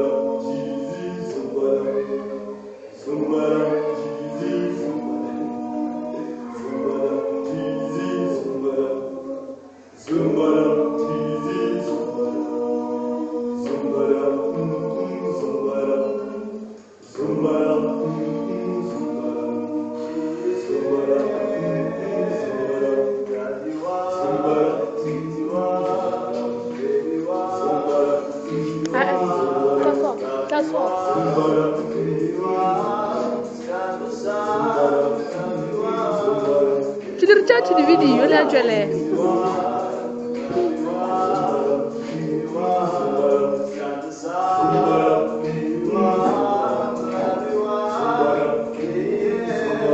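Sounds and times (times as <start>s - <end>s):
choir singing a cappella: 0.0s - 49.9s.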